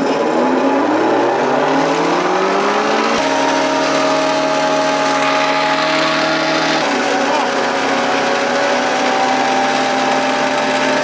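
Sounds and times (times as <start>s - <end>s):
feed shredder engine running: 0.0s - 11.0s.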